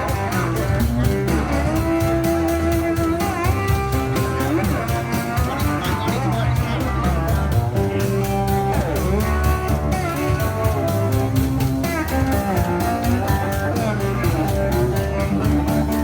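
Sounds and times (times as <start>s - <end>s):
guitar music with sliding notes: 0.0s - 16.0s.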